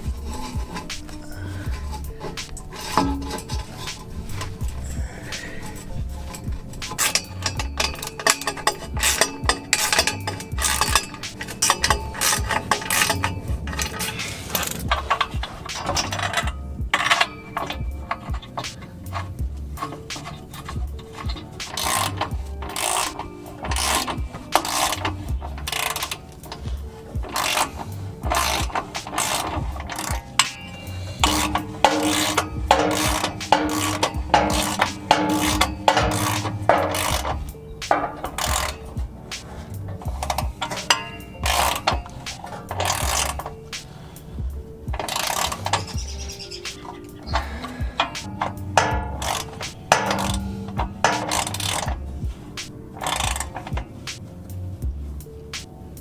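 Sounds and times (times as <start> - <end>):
socket ratchet clicking: 0.0 - 56.0.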